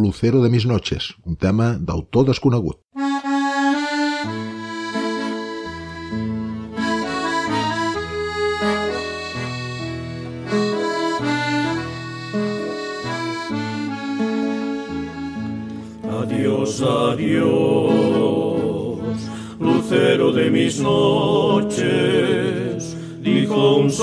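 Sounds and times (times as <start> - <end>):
accordion playing: 3.0 - 24.0.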